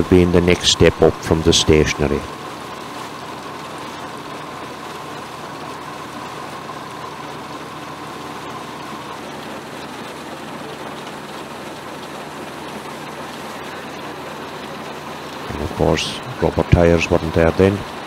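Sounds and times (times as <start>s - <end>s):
high machinery whine: 0.0s - 18.0s
threshing machine humming: 0.0s - 18.0s.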